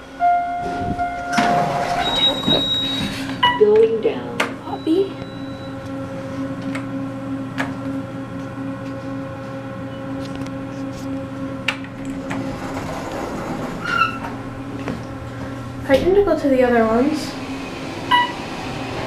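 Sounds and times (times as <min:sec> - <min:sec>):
elevator drive hum: 0:00.0 - 0:19.0.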